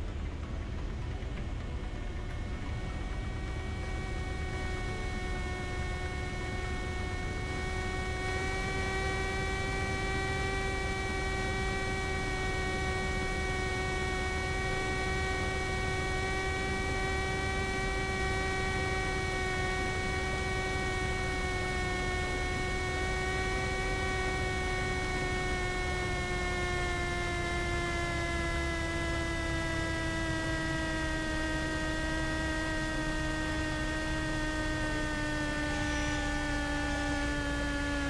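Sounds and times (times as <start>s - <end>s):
engine and cabin rumble: 0.0s - 38.0s
steady electrical whine: 0.0s - 38.0s.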